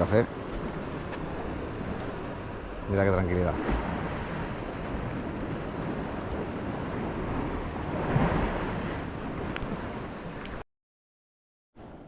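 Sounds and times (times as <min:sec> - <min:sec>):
small waves washing on shore: 0:00.0 - 0:10.6
wind buffeting microphone: 0:00.0 - 0:10.6.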